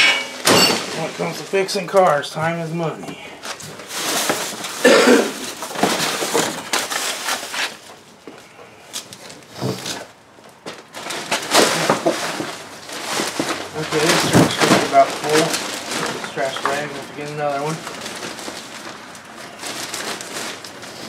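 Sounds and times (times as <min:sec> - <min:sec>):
trash rustling and crumpling: 0:00.0 - 0:21.0.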